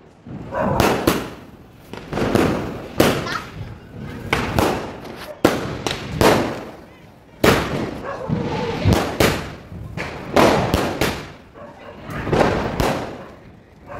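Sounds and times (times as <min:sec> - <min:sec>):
fireworks banging: 0:00.0 - 0:13.9.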